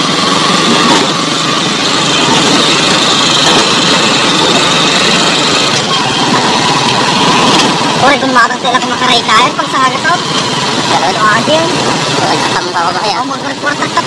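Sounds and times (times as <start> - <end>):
small vehicle engine running: 0.0 - 14.0.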